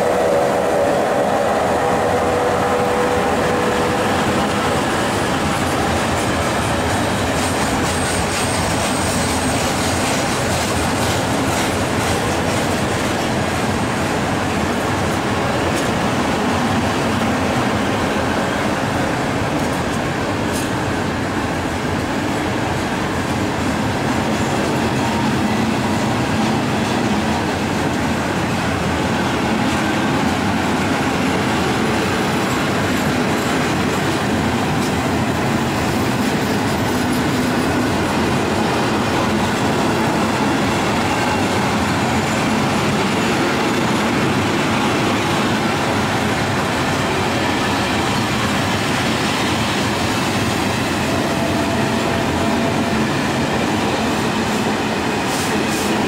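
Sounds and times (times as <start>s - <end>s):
freight train wagons rolling past: 0.0s - 56.0s
steel wheels clattering on rails: 2.8s - 17.6s, 21.9s - 56.0s.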